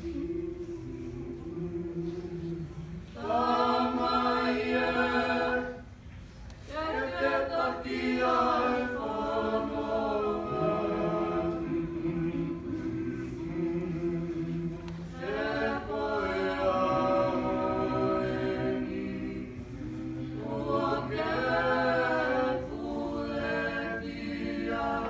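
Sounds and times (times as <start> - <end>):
group singing unaccompanied: 0.0 - 5.9, 6.6 - 25.0.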